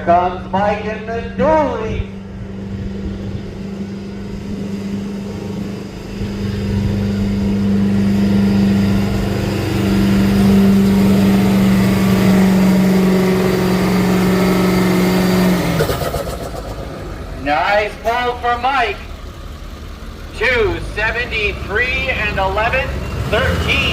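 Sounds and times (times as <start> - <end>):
pickup truck engine revving hard: 0.0 - 17.8, 20.4 - 23.9.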